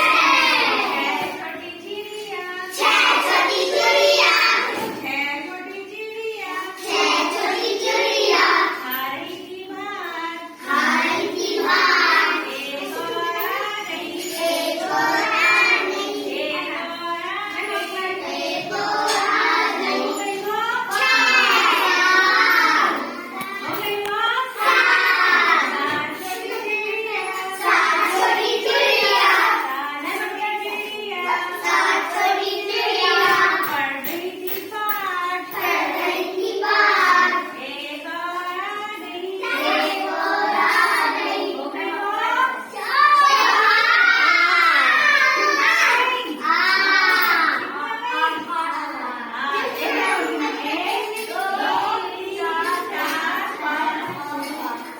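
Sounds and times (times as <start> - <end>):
children singing a rhyme: 0.0 - 54.9.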